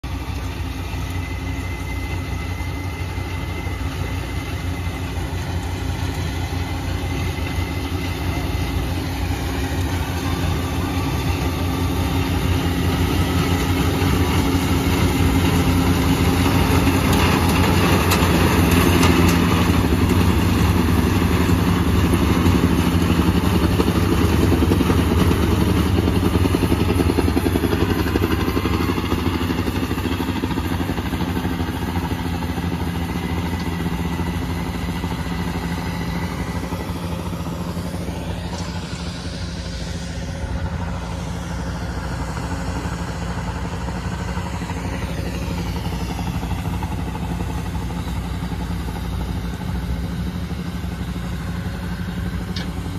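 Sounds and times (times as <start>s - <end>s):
combine harvester droning: 0.0s - 52.9s.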